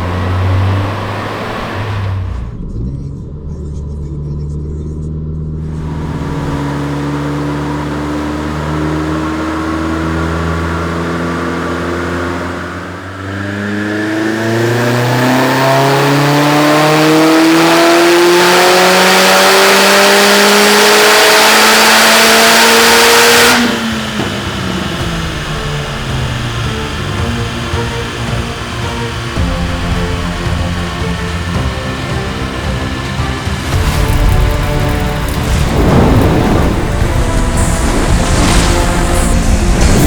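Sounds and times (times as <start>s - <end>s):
turbocharged engine full-throttle pull: 0.0s - 40.0s.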